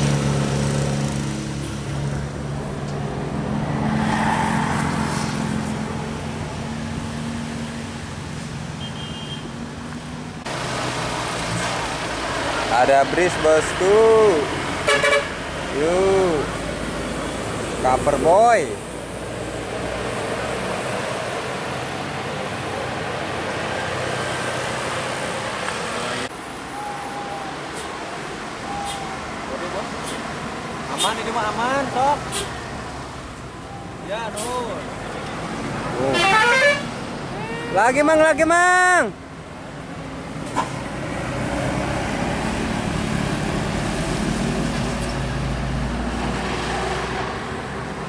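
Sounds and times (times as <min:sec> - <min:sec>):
heavy vehicle engine and tyres: 0:00.0 - 0:48.0
road noise: 0:00.0 - 0:48.0.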